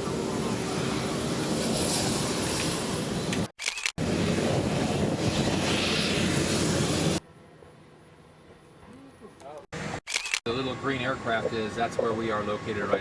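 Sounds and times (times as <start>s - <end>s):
aircraft engines rushing: 0.0s - 13.0s.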